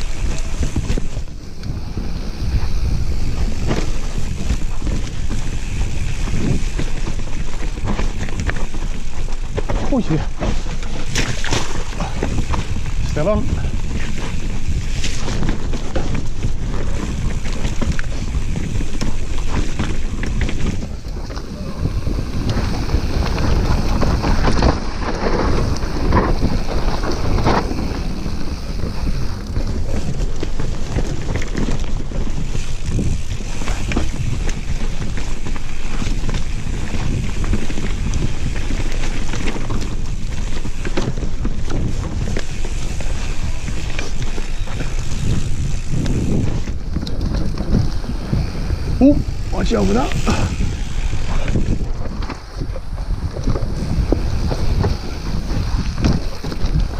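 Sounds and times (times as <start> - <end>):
bike clattering and rattling: 0.0 - 56.9
bike tyres rumbling on dirt: 0.0 - 56.9
wind buffeting microphone: 0.0 - 56.9.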